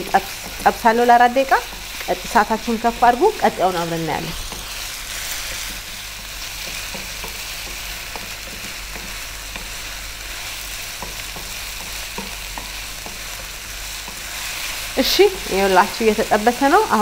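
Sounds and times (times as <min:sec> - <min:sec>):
wooden spoon tapping and scraping: 0:00.0 - 0:04.8, 0:05.6 - 0:17.0
food sizzling in oil: 0:00.0 - 0:17.0.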